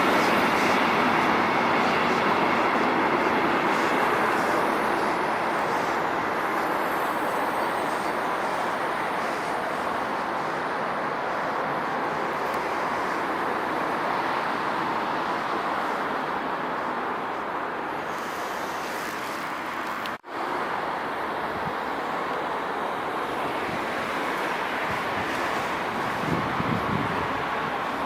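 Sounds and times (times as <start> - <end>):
faint high whine: 0.0 - 28.0
train wheels rushing on rails: 0.0 - 28.0.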